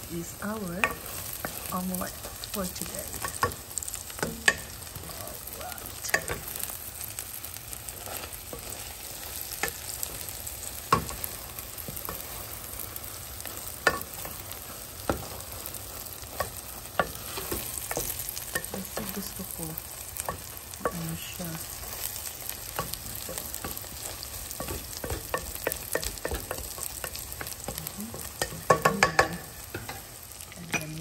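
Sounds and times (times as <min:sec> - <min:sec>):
food sizzling in a pan: 0:00.0 - 0:31.0
wooden spoon scraping a pan: 0:00.2 - 0:31.0.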